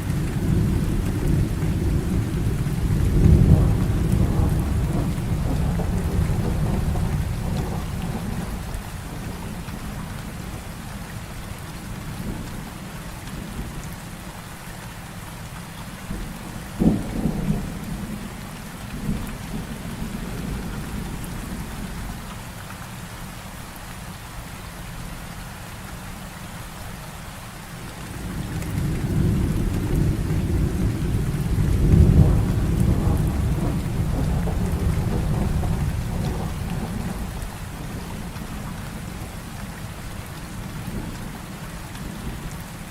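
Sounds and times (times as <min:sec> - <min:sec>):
low rumble of thunder: 0:00.0 - 0:11.1, 0:11.9 - 0:14.0, 0:16.0 - 0:22.3, 0:27.8 - 0:42.9
heavy rain: 0:00.0 - 0:42.9.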